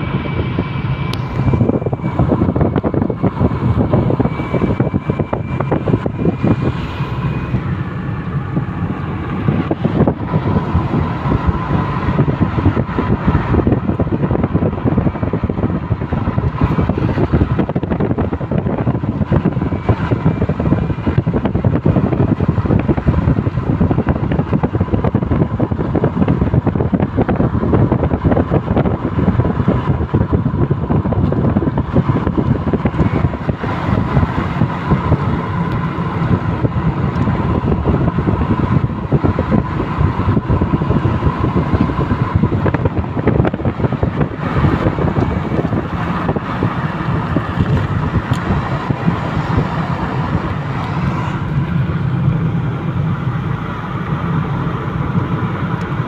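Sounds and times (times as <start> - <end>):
car road and engine noise: 0.0 - 56.0
wind rushing over microphone: 0.0 - 56.0.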